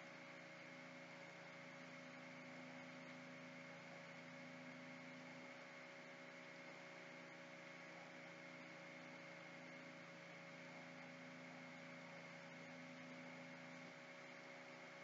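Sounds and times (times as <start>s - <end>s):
faint hum and hiss: 0.0s - 15.0s.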